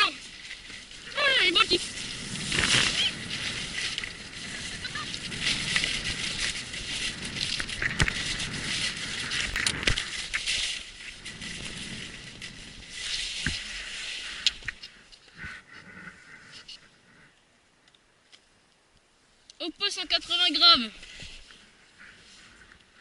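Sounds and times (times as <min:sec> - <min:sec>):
skis scraping over snow: 0:00.0 - 0:17.3, 0:20.3 - 0:23.0.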